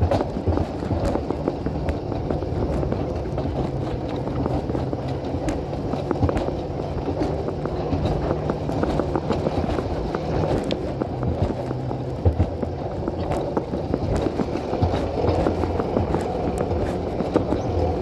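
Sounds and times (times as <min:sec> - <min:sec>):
small clicks and rattles: 0:00.0 - 0:18.0
wheels rumbling on rails: 0:00.0 - 0:18.0.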